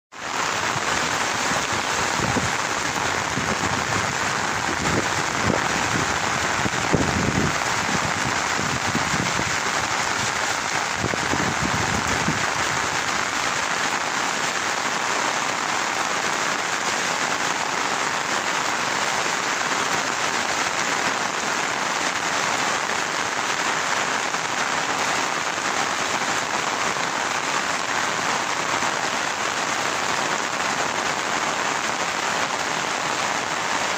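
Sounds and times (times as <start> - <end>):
rain on wet grass and water: 0.1 - 33.9.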